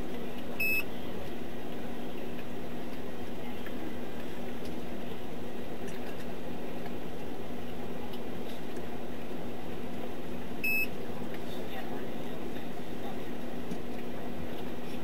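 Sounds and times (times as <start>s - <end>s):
steady hiss with low hum: 0.0s - 15.0s.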